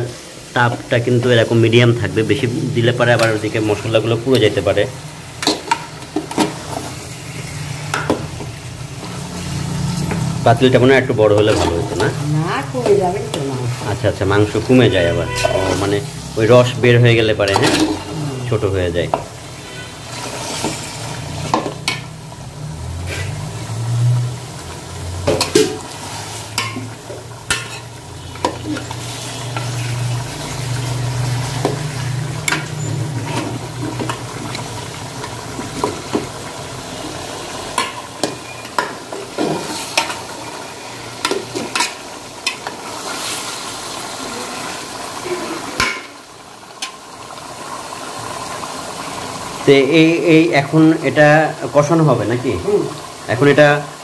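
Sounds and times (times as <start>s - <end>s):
meat sizzling in a pot: 0.0s - 54.0s.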